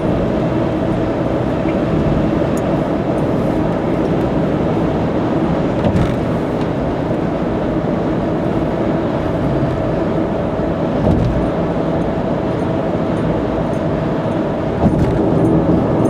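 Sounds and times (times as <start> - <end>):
car road noise from inside: 0.0 - 16.0.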